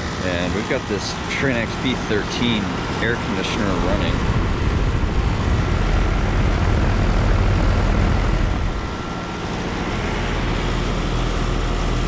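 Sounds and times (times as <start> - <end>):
condenser fan noise: 0.0 - 12.0
low compressor hum: 0.0 - 12.0.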